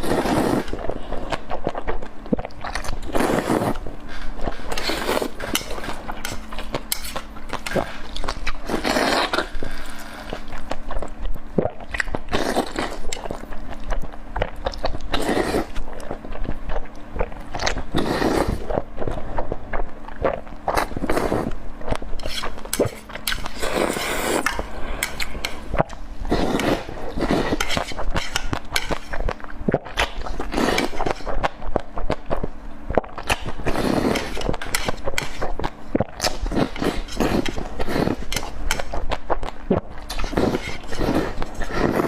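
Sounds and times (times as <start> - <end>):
person chewing noisily: 0.0 - 42.0.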